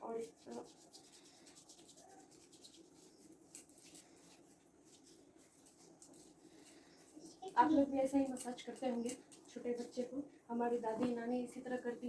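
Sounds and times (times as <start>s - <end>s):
hands rubbing skin: 0.0s - 10.2s.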